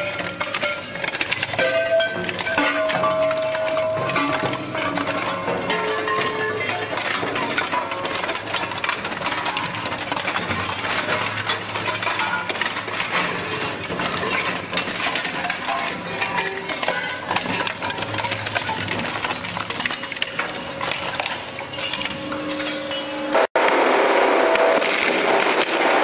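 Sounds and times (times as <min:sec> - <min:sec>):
metal clanking and crunching: 0:00.0 - 0:26.0.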